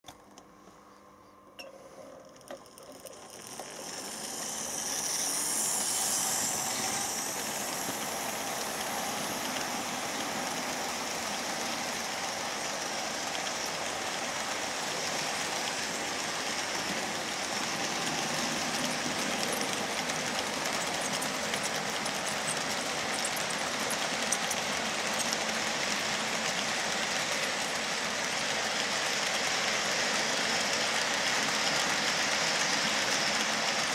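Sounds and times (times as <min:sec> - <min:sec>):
model train wheels rattling on track: 0:02.1 - 0:33.9.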